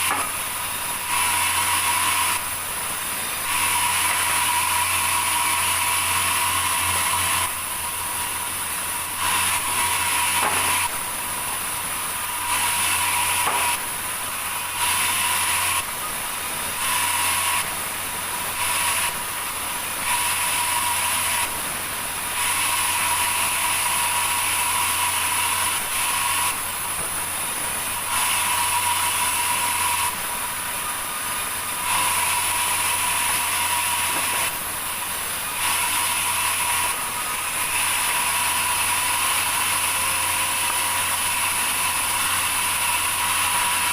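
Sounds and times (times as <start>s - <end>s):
sawmill saw whining: 0.0s - 43.9s.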